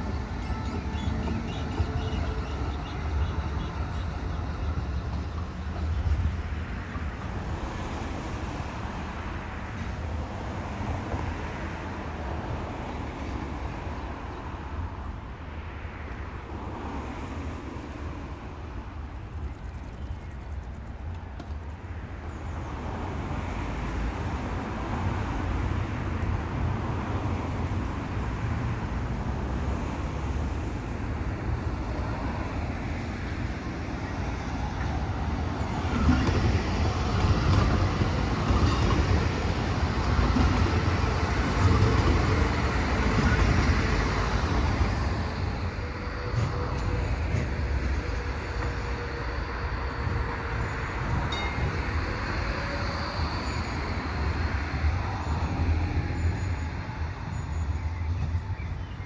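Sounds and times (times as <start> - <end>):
low rumble of vehicle noise: 0.0 - 59.0.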